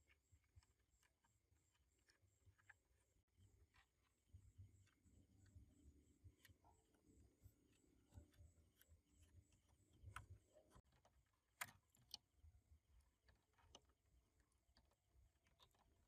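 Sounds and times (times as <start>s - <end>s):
faint small clicks and taps: 0.0s - 16.0s.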